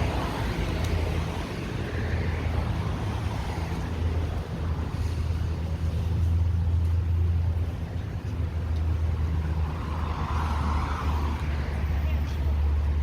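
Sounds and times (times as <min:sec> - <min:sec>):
car passing: 0:00.0 - 0:13.0
low rumble of road traffic: 0:00.0 - 0:13.0.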